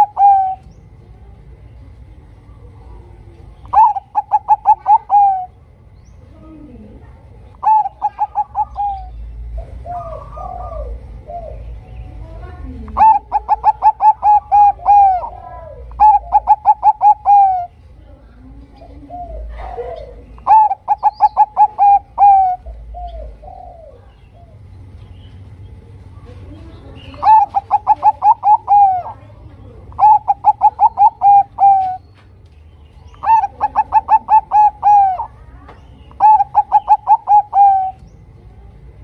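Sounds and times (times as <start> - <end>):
dove cooing: 0.0 - 25.0, 26.0 - 32.2, 33.0 - 38.8.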